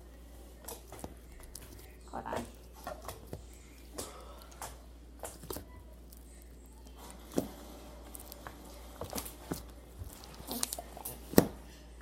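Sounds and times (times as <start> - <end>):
slime squelching by hand: 0.0 - 11.8.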